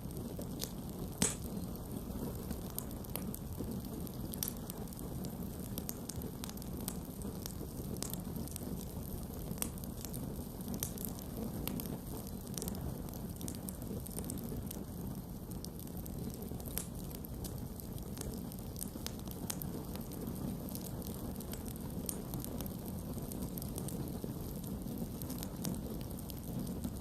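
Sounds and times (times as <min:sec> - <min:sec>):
burning wood crackling: 0:00.0 - 0:27.0
campfire flames rumbling: 0:00.0 - 0:27.0.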